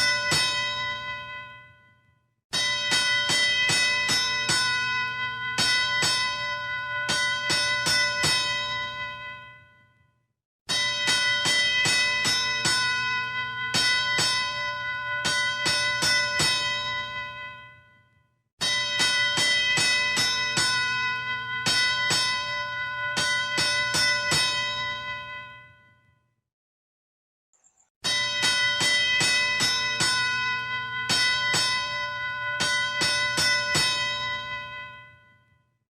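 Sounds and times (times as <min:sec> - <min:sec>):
boxing ring bell strikes: 0:00.0 - 0:10.0, 0:10.7 - 0:26.0, 0:28.0 - 0:35.6.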